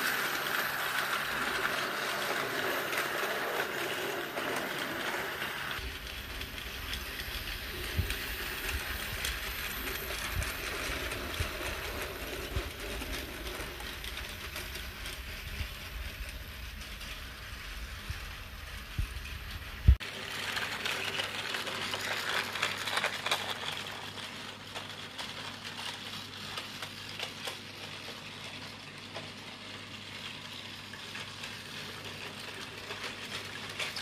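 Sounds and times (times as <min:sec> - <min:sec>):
toy train motors whirring: 0:00.0 - 0:34.0.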